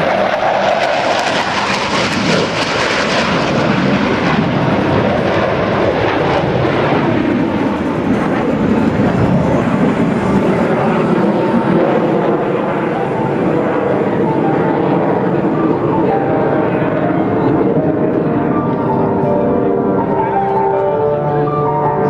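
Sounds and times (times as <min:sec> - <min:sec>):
jet engines flying overhead: 0:00.0 - 0:22.0.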